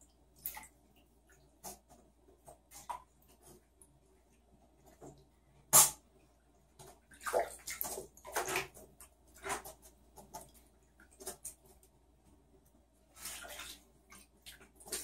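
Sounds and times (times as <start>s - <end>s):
water splashing in bathtub: 0.0s - 15.0s.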